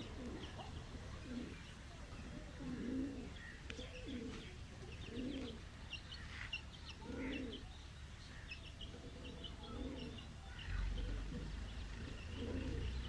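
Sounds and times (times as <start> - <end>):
pigeons cooing: 0.0 - 5.7, 6.9 - 7.7, 8.8 - 13.0
small birds chirping: 0.0 - 13.0.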